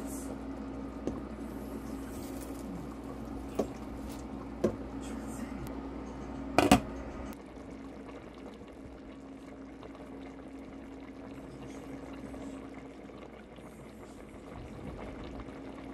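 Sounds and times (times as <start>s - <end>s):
broth boiling and bubbling: 0.0s - 15.9s
low hum: 0.0s - 15.9s.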